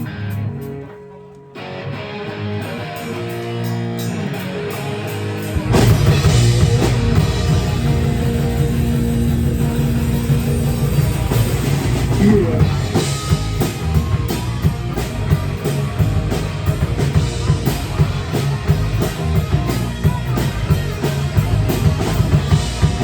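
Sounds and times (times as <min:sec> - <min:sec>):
electric guitar: 0:00.0 - 0:23.0
rock band playing: 0:00.0 - 0:23.0
drum kit fast beat: 0:03.1 - 0:23.0.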